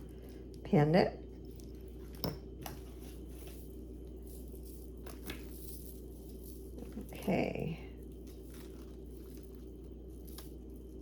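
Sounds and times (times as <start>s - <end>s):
steady low hum: 0.0s - 11.0s
jewelry clicking and rustling: 1.2s - 11.0s.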